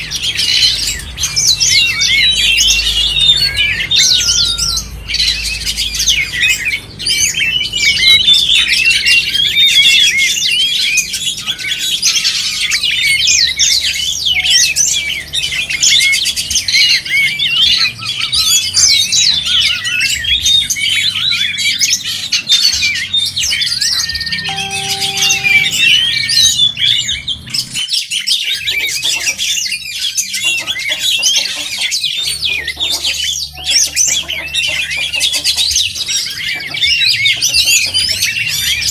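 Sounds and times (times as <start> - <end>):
birds singing rapid chirps: 0.0 - 38.9.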